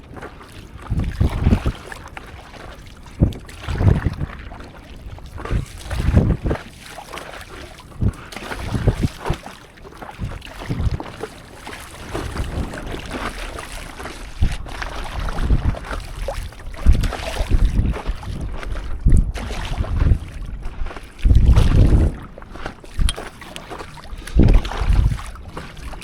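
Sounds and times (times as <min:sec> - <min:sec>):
water splashing against paddleboard: 0:00.0 - 0:26.0
wind buffeting microphone: 0:00.0 - 0:26.0.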